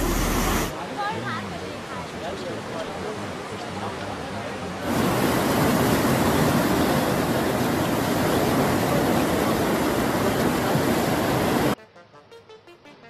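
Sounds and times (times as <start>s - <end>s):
floodwater rushing: 0.0s - 11.8s.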